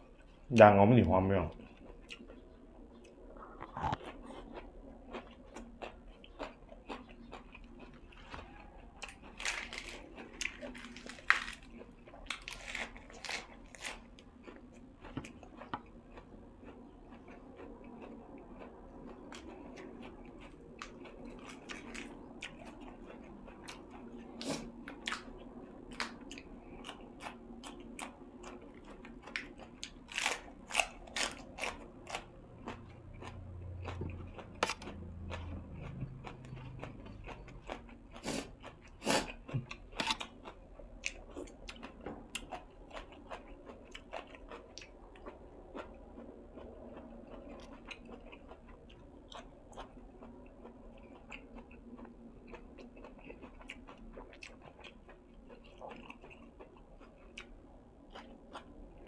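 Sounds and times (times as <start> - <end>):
person chewing crunchy food: 1.5 - 59.0.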